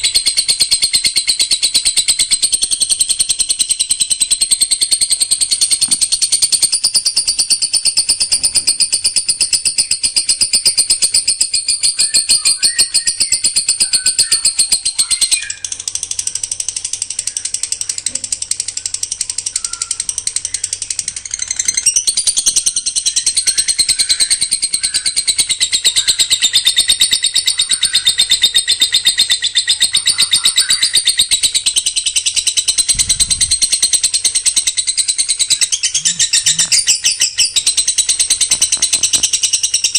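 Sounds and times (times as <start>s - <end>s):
songbird fast trill: 0.0s - 39.9s.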